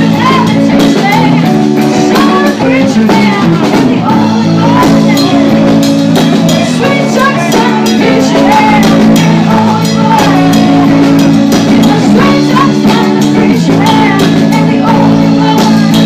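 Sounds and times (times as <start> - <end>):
live band playing: 0.0 - 16.0
woman singing lead: 0.0 - 16.0.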